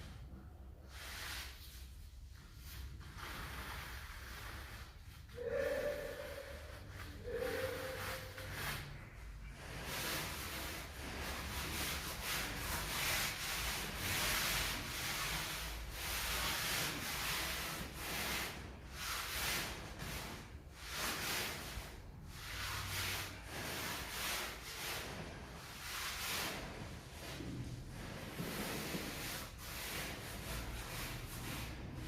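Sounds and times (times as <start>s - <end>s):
tool scraping mortar floor: 3.0s - 32.0s.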